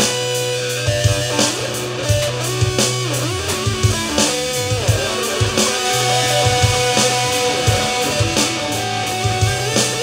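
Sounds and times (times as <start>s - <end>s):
drums: 0.0s - 10.0s
electric guitar lead lines: 0.0s - 10.0s
sustained bass notes: 0.5s - 10.0s.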